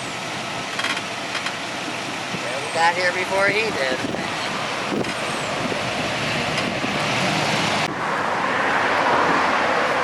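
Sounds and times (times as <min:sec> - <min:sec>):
vehicle road and engine noise: 0:00.0 - 0:10.0.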